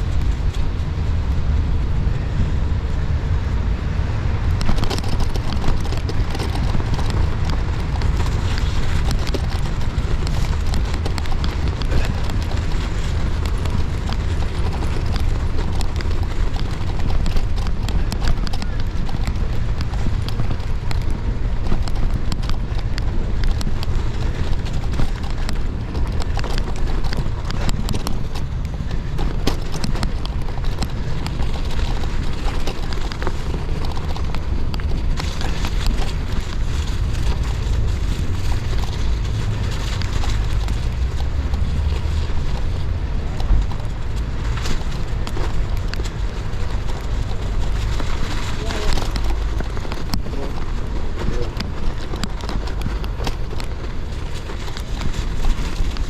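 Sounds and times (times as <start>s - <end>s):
bike tyres crunching on snow: 0.0s - 56.0s
low bike rumble: 0.0s - 56.0s
wind on camera: 0.0s - 56.0s.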